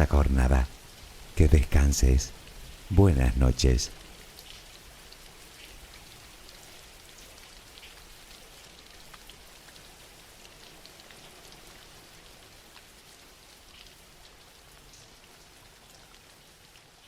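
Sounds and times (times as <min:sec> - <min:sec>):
steady soft rain: 0:00.0 - 0:17.0.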